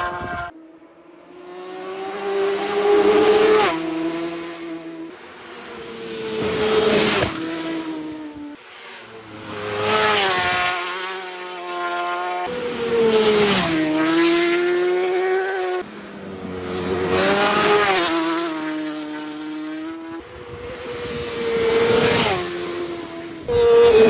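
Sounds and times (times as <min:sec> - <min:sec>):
racing motorcycles passing: 0:00.0 - 0:24.0.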